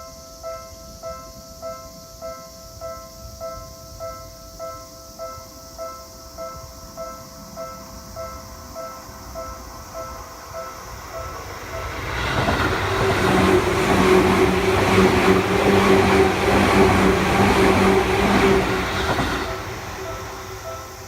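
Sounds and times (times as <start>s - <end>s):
electric train passing: 0.0s - 21.0s
level-crossing warning bell: 0.0s - 21.0s.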